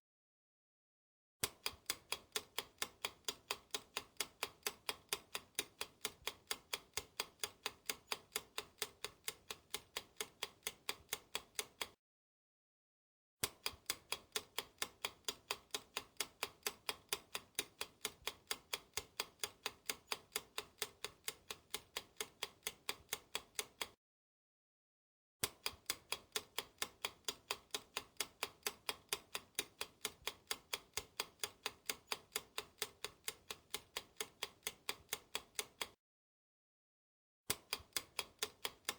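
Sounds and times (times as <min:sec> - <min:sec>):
clock ticking: 0:01.4 - 0:12.0, 0:13.4 - 0:24.0, 0:25.4 - 0:36.0, 0:37.5 - 0:38.9.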